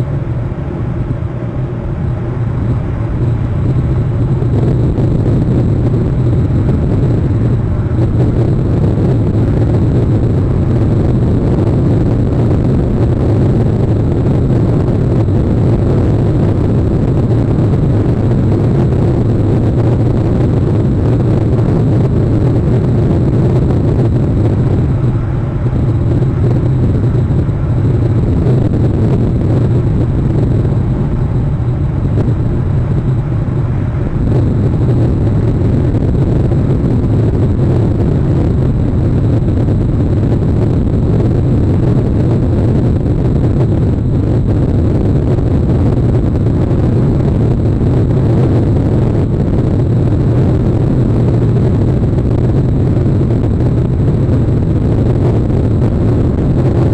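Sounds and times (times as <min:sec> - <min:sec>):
wind rushing on microphone: 0:00.0 - 0:56.9.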